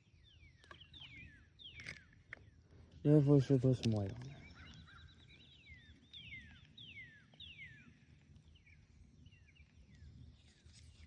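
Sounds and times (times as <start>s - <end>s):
soft bird chirps: 0.0s - 2.6s, 3.8s - 11.0s.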